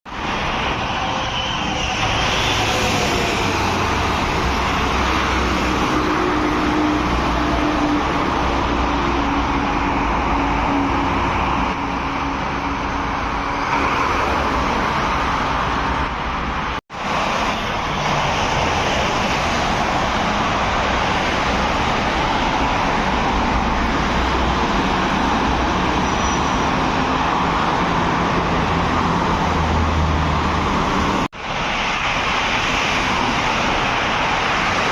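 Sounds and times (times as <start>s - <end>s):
road traffic: 0.1s - 34.9s.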